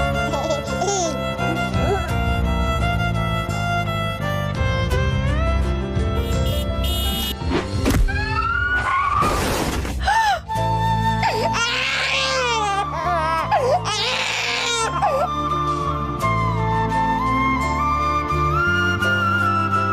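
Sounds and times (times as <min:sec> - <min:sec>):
sad music with sustained notes: 0:00.0 - 0:06.8, 0:09.9 - 0:19.9.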